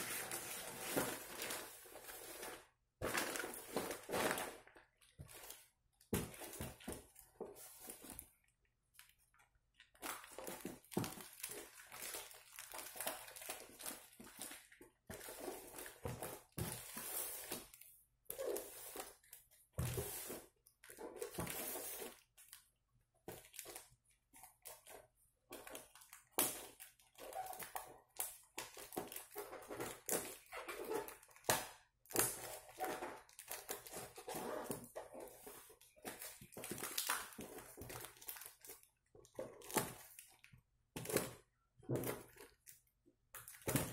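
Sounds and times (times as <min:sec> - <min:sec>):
tape and cardboard crinkling: 0:00.0 - 0:43.9.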